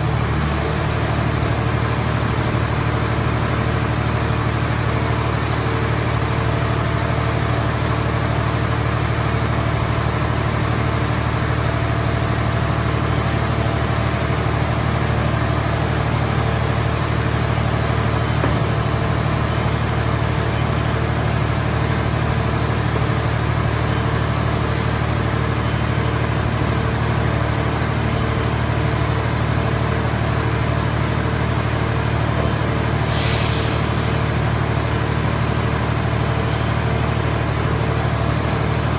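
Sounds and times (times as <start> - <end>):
machine engine running: 0.0 - 38.9.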